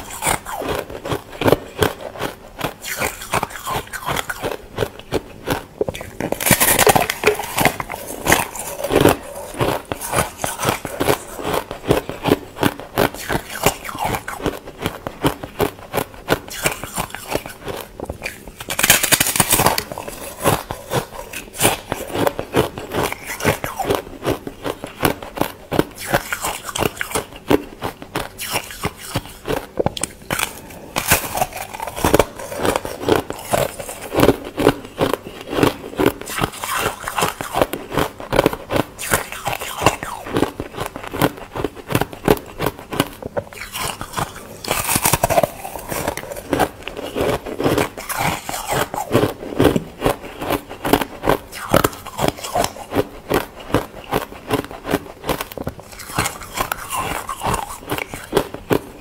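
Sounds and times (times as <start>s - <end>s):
ice crunching as chewed: 0.0s - 59.0s.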